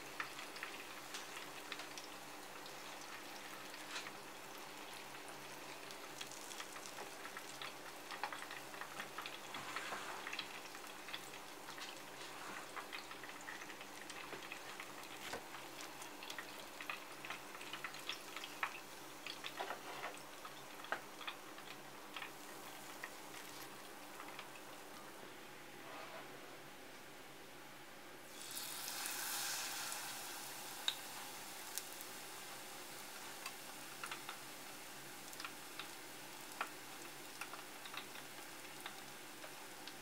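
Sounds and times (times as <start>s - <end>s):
hot oil crackling: 0.0s - 25.2s, 28.2s - 40.0s.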